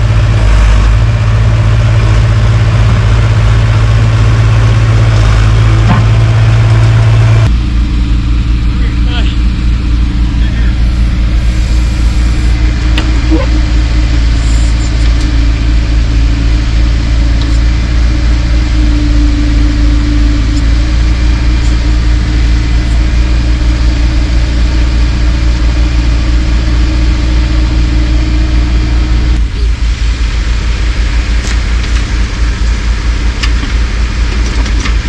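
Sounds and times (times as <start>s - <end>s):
engine deep rumble: 0.0s - 35.0s.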